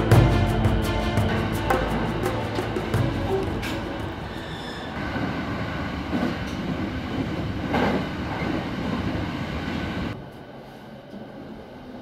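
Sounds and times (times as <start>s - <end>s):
train rumble and rattle: 0.0s - 12.0s.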